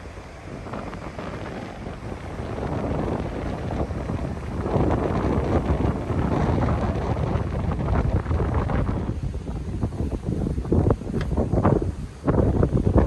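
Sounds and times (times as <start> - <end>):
surf washing in: 0.0 - 13.0
wind buffeting microphone: 0.0 - 13.0.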